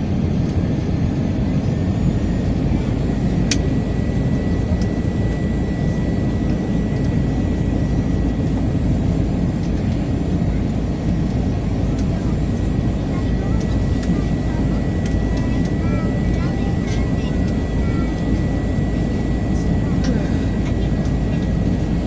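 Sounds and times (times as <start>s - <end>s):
airplane cabin noise: 0.0s - 22.0s.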